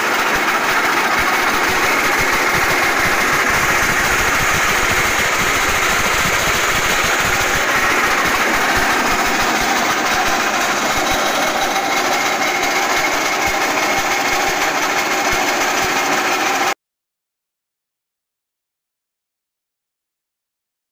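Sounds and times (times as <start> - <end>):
petrol engine running: 0.0 - 16.8.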